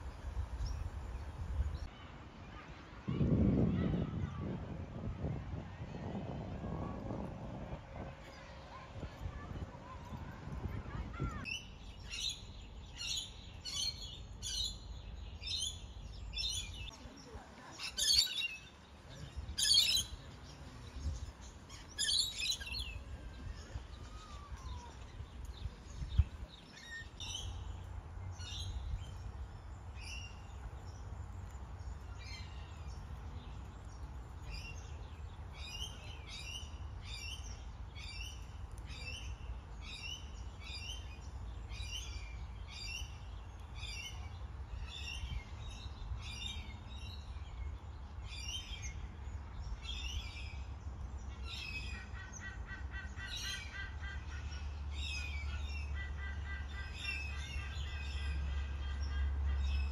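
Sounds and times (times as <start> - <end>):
small birds chirping: 7.7 - 59.9.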